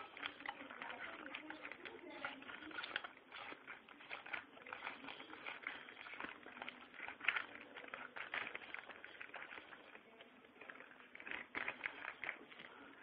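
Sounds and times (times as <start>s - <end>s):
small clicks taps and rattles: 0.0s - 13.0s.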